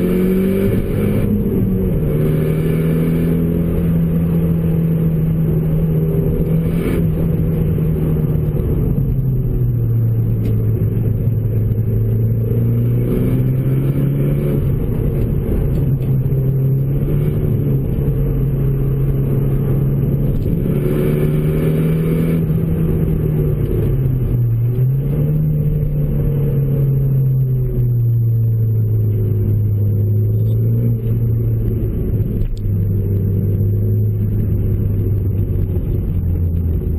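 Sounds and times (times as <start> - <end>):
car engine drone from inside cabin: 0.0 - 36.9.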